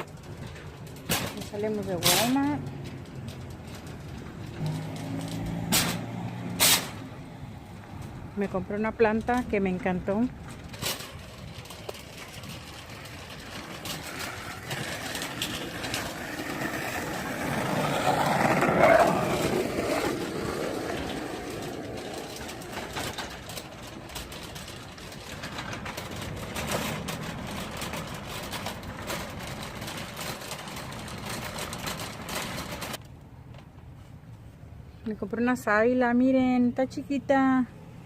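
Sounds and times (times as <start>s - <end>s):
vehicle engine and tyre noise: 0.0s - 35.2s.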